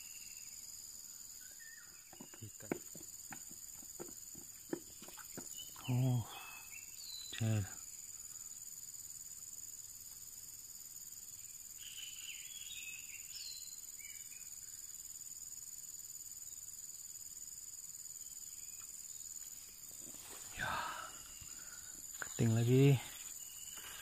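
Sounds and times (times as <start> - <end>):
high-pitched insect trilling: 0.0 - 24.0.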